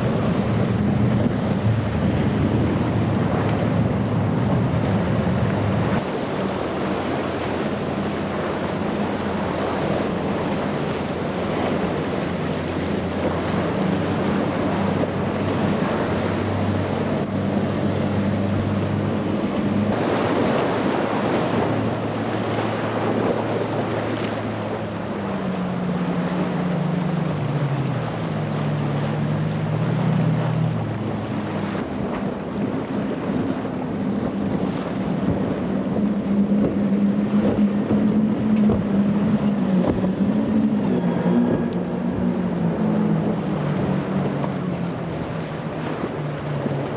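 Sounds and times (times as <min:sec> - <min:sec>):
outboard engines droning: 0:00.0 - 0:46.9
rush of spray and waves: 0:00.0 - 0:46.9
wind buffeting microphone: 0:00.0 - 0:46.9.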